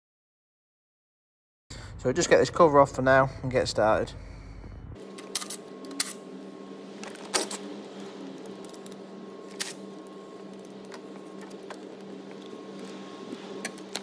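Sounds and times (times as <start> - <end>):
steady low hum: 1.7 - 14.0.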